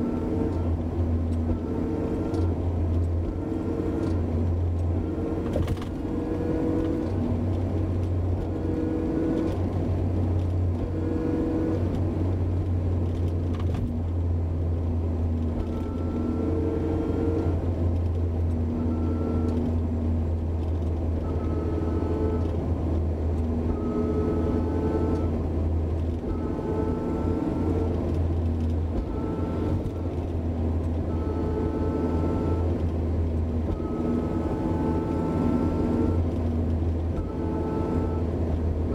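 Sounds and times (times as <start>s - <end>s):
car low drone: 0.0s - 38.9s.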